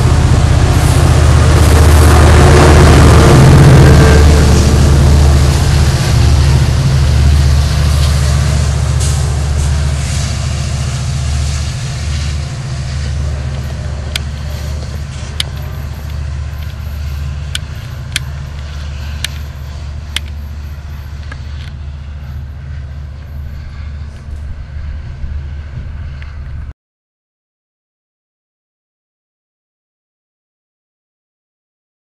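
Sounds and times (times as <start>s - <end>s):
passenger train rumbling past: 0.0s - 26.7s.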